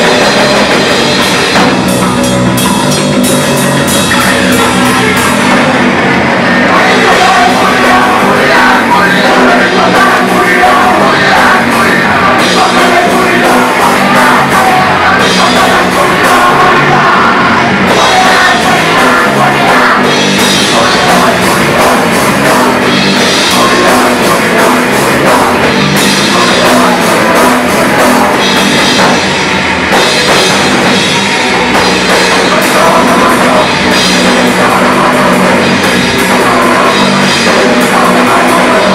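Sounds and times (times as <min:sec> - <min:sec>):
punk band playing live: 0:00.0 - 0:38.9.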